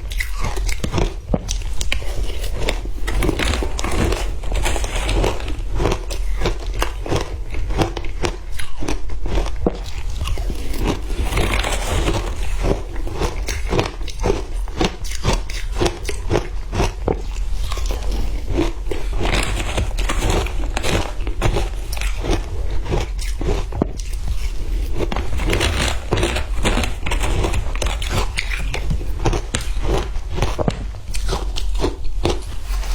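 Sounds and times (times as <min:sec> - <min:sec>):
ice crunching while chewed: 0:00.0 - 0:32.9.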